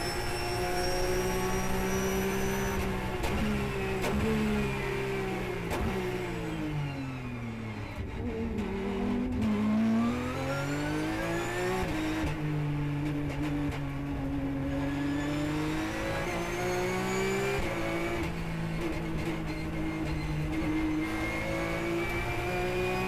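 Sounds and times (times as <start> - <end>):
race car engine: 0.0 - 23.0.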